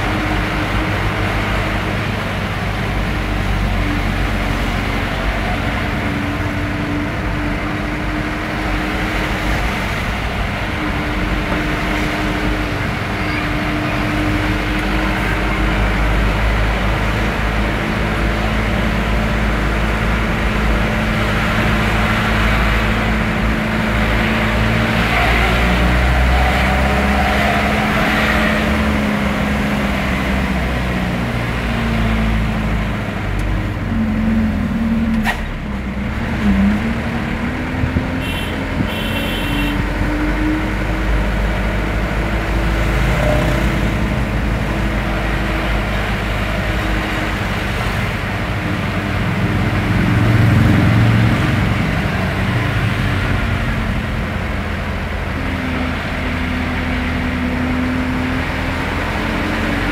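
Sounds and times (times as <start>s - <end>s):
vehicle engine hum: 0.0s - 59.9s.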